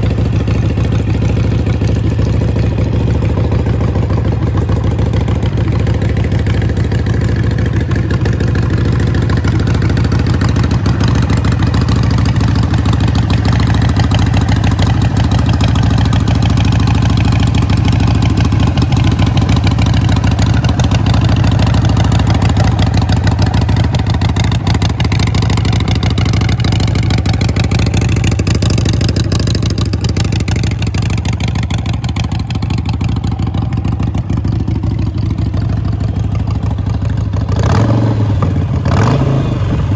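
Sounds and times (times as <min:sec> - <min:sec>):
motorcycle engine pulsing exhaust: 0:00.0 - 0:39.9.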